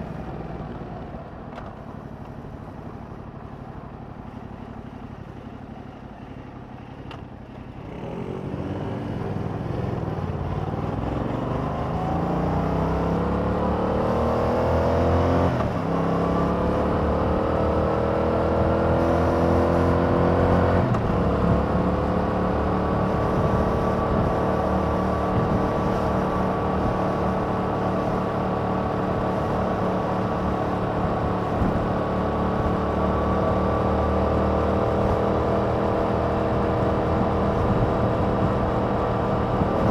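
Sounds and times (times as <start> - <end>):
motorcycle engine accelerating: 7.6 - 39.9.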